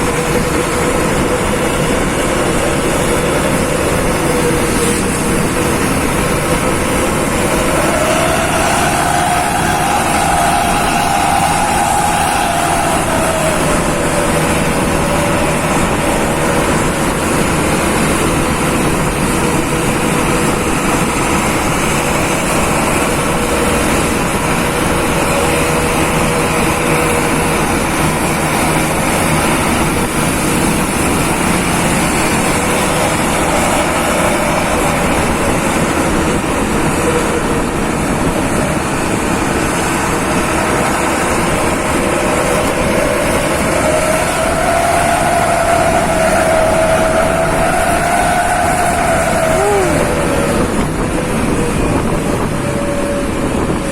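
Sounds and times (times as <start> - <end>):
road noise: 0.0 - 53.9
vehicle engine running: 0.0 - 53.9.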